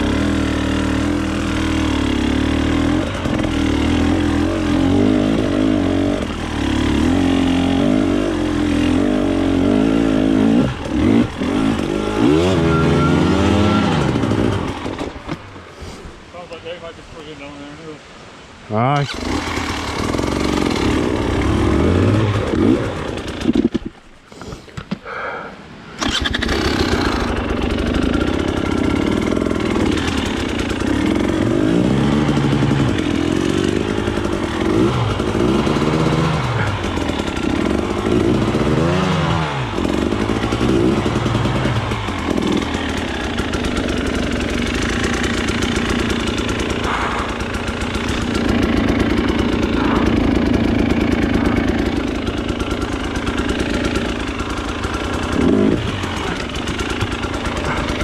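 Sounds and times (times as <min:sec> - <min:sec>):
motorcycle engine revving: 0:00.0 - 0:15.5, 0:19.0 - 0:24.0, 0:26.0 - 0:58.0.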